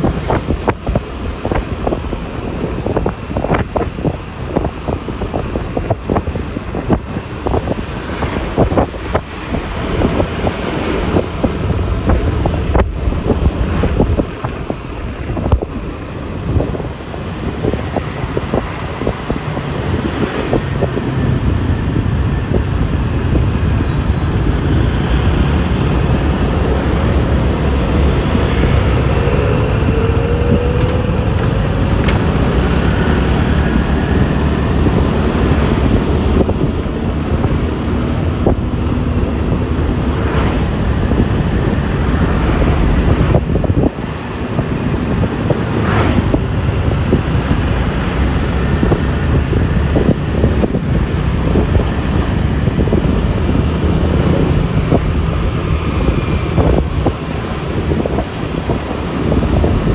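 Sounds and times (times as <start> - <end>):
road noise: 0.0 - 59.9
scooter engine rumble: 0.0 - 59.9
wind buffeting microphone: 0.0 - 59.9.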